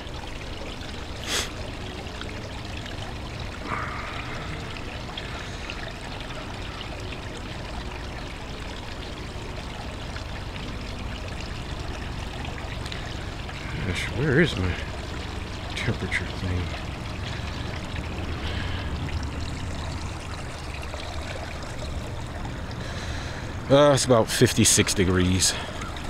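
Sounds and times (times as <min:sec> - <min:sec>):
stream trickling over rocks: 0:00.0 - 0:26.0.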